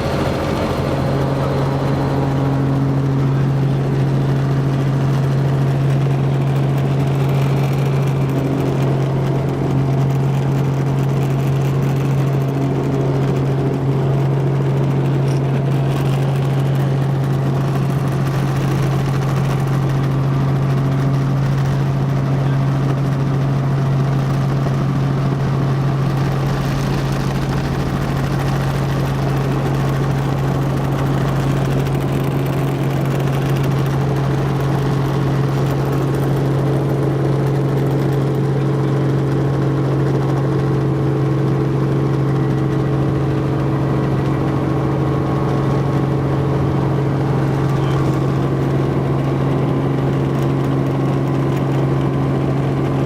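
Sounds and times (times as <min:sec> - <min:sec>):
helicopter engine and rotors droning: 0:00.0 - 0:53.0.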